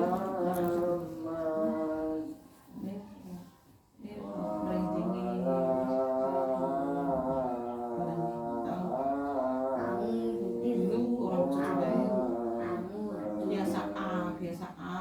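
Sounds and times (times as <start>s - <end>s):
child chanting: 0.0s - 2.8s, 4.2s - 14.4s.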